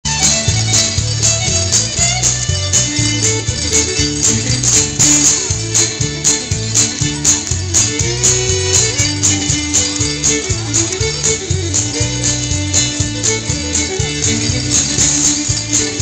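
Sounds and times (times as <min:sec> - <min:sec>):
bass: 0:00.0 - 0:16.0
fiddle tune: 0:00.1 - 0:16.0
guitar: 0:00.1 - 0:16.0
rattling percussion beat: 0:00.1 - 0:16.0.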